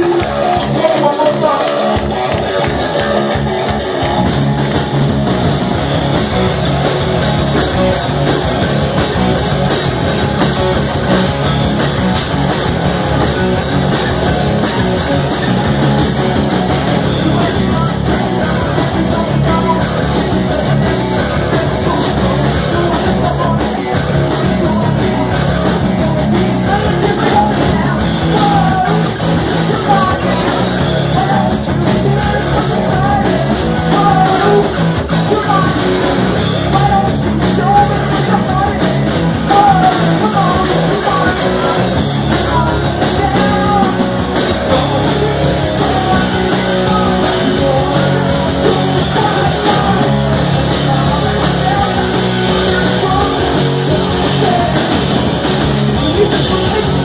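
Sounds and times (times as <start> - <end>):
person singing: 0.0 - 4.8, 6.1 - 57.0
bass guitar: 0.0 - 57.0
drum kit: 0.0 - 57.0
electric guitar: 0.0 - 57.0.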